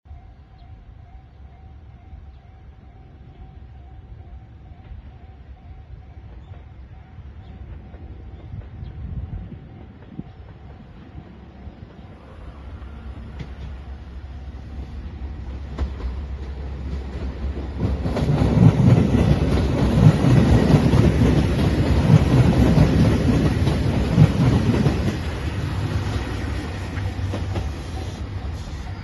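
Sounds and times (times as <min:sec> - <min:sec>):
train passing rumble: 0:00.1 - 0:29.0.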